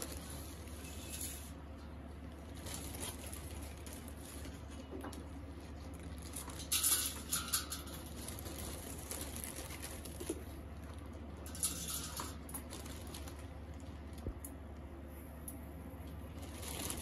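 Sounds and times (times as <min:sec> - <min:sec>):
dry vermicelli rustling in colander: 0:00.0 - 0:01.6, 0:02.3 - 0:14.2, 0:16.3 - 0:17.0
faint steady low hum: 0:00.0 - 0:17.0.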